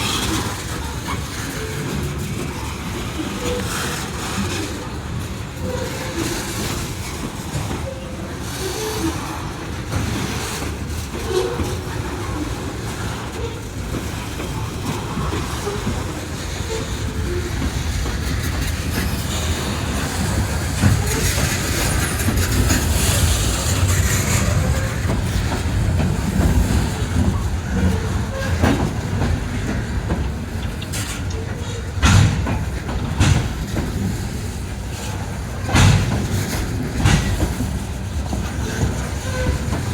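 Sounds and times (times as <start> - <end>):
train cars rolling rumble: 0.0 - 39.9
wheels clacking over rail joints: 0.0 - 39.9.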